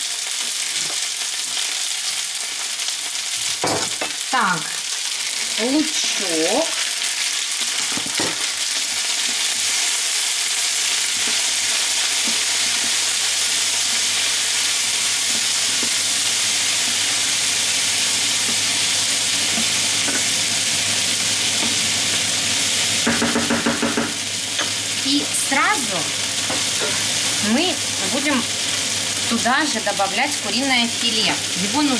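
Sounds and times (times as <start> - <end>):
potatoes sizzling in a frying pan: 0.0 - 31.9.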